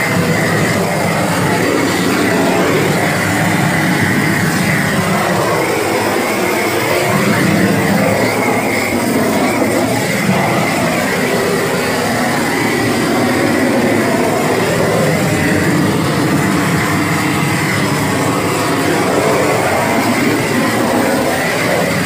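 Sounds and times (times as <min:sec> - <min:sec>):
gas flame torch rushing: 0:00.0 - 0:22.0.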